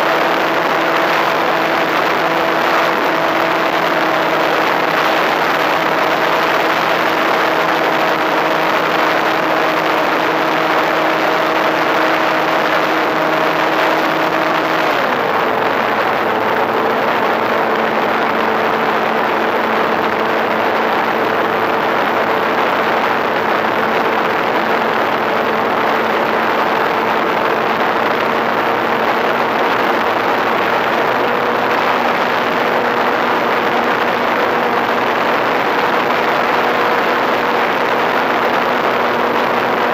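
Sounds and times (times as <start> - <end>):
electric motor and propeller humming: 0.0 - 39.9.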